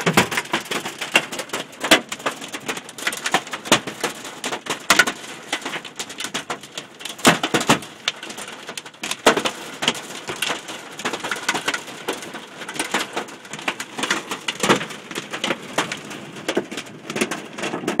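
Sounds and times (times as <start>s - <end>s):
hailstones hitting a car: 0.0s - 18.0s.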